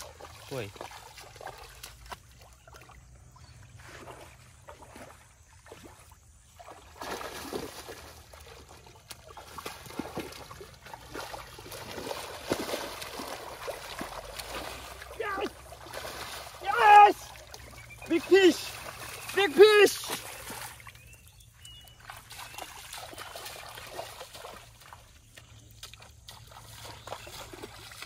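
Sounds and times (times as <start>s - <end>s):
muddy water splashing and sloshing: 0.0s - 28.0s
sharp splashes: 0.0s - 28.0s.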